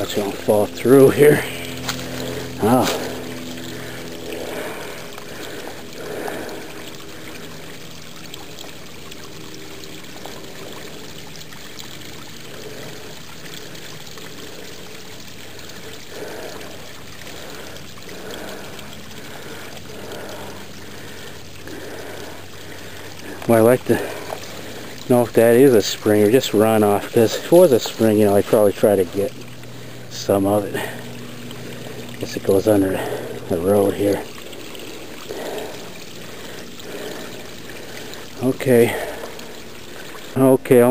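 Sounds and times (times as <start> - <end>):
water trickling over rocks: 0.0 - 40.9.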